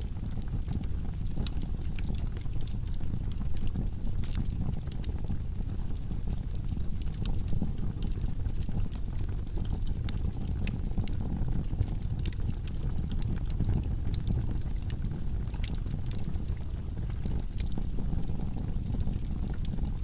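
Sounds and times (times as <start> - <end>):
fire flames rumbling: 0.0 - 20.0
wood crackling and popping: 0.0 - 20.0.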